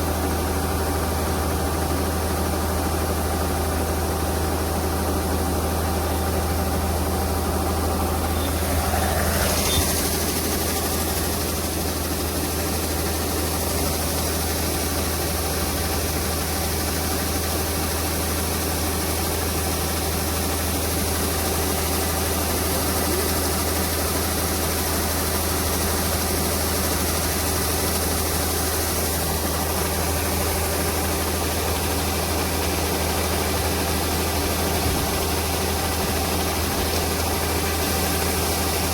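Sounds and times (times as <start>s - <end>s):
diesel engine of farm machinery: 0.0s - 38.9s.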